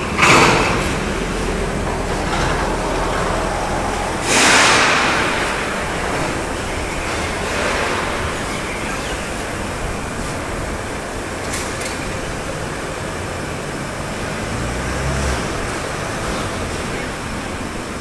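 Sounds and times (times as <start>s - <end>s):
machinery and ventilation hum: 0.0s - 18.0s.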